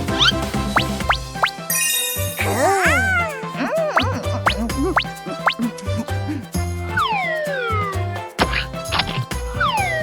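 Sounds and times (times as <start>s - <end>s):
upbeat children's music: 0.0s - 10.0s
falling whistle cartoon sound: 0.1s - 6.1s, 6.8s - 10.0s.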